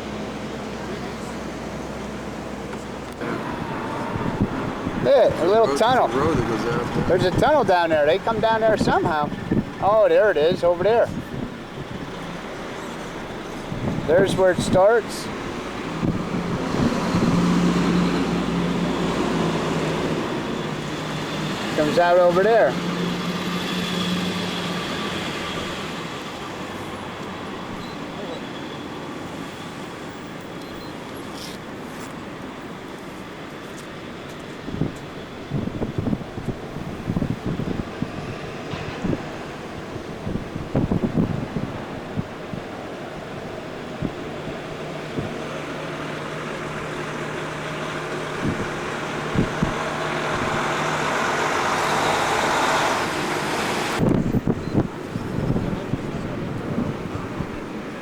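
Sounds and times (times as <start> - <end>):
steady traffic noise: 0.0 - 58.0
vehicle engine hum: 0.0 - 58.0.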